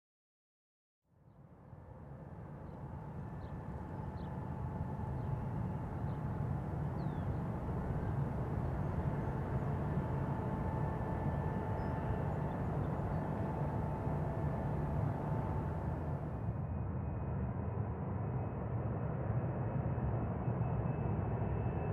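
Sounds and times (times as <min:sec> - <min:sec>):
jet engines at takeoff: 0:01.7 - 0:21.9.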